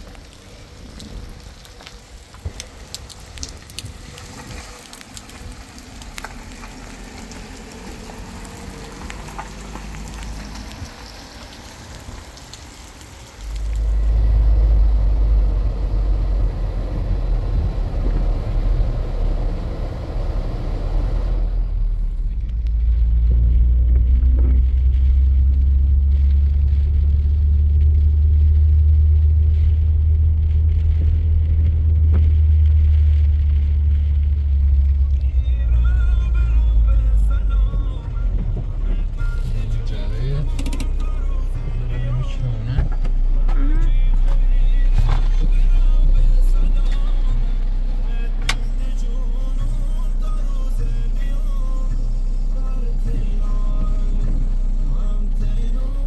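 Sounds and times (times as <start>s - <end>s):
rain hissing: 0.0s - 56.0s
vehicle engine rumbling: 0.0s - 56.0s.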